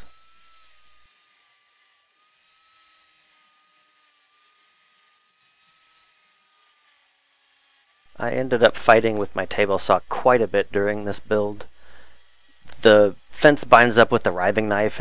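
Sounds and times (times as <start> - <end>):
table saw whining: 0.0 - 15.0.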